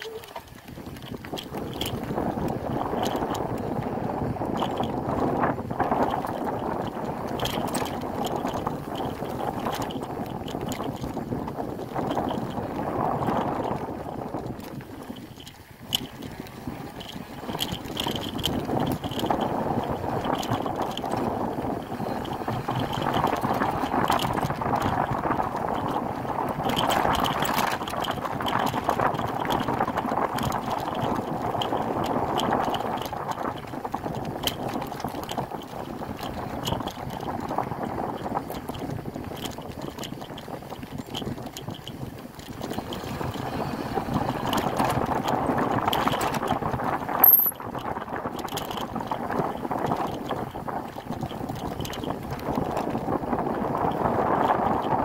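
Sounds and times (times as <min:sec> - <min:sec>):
bike rattles and clicks: 0:00.0 - 0:55.0
bike tyre noise on dirt: 0:00.0 - 0:55.0
wind on microphone: 0:00.0 - 0:55.0.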